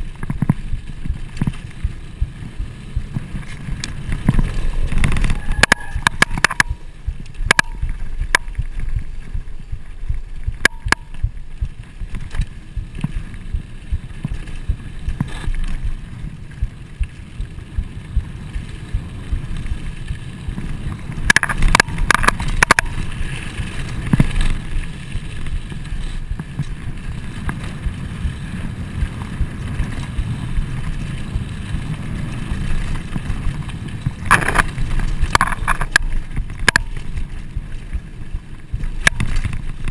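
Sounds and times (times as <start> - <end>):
bike clicking and rattling: 0.0 - 39.9
wind and tyres rumbling: 0.0 - 39.9.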